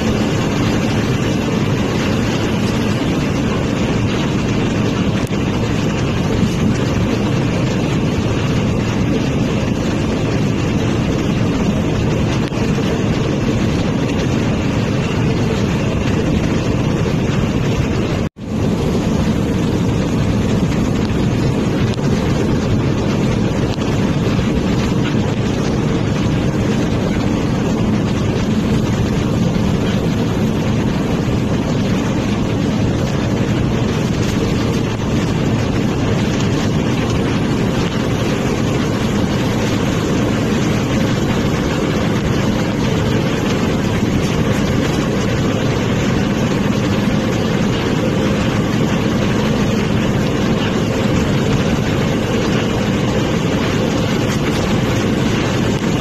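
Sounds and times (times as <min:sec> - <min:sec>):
bus engine and road noise: 0:00.0 - 0:56.0.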